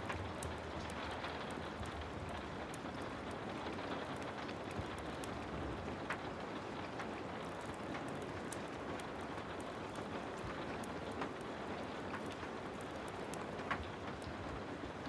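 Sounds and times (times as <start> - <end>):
heavy rain falling: 0.0 - 15.0
wood fire crackles: 0.0 - 15.0.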